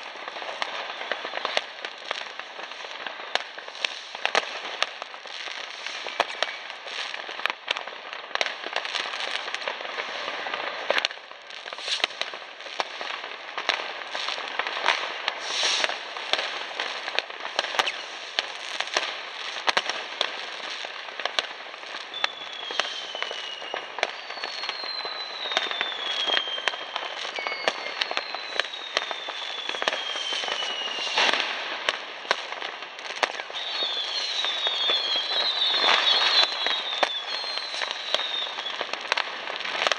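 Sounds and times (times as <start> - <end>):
fireworks crackling and banging: 0.0 - 39.9
whistling fireworks falling in pitch: 0.0 - 39.9.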